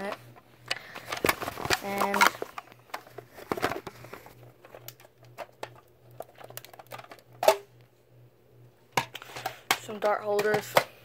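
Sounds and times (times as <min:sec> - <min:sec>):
plastic parts clicking and rustling: 0:00.0 - 0:07.7, 0:09.0 - 0:11.0.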